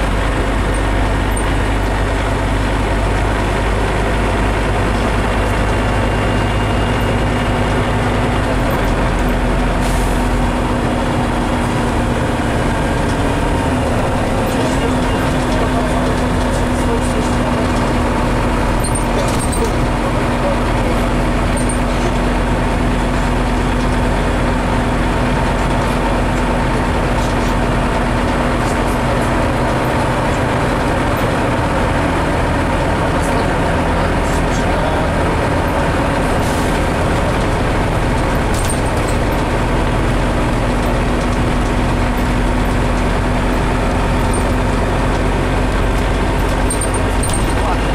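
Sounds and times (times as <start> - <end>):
bus diesel engine drone: 0.0 - 47.9
road noise: 0.0 - 47.9.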